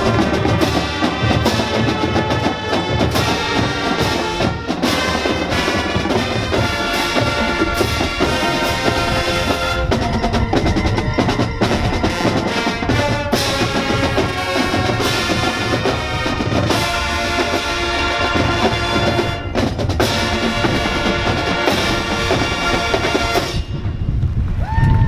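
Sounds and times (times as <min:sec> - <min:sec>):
brass chords: 0:00.0 - 0:23.9
snare and bass drums: 0:00.0 - 0:23.9.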